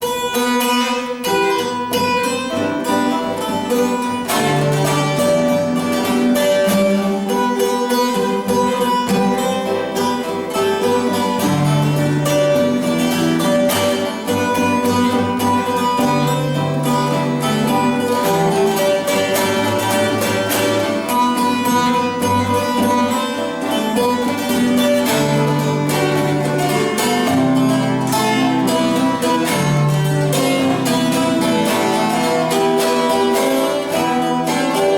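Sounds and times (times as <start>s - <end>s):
plucked lute and acoustic guitar: 0.0s - 34.9s.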